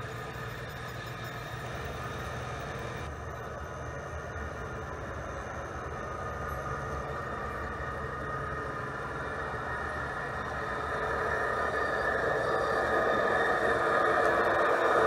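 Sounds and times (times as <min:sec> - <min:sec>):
model train hum and whine: 0:00.0 - 0:15.0.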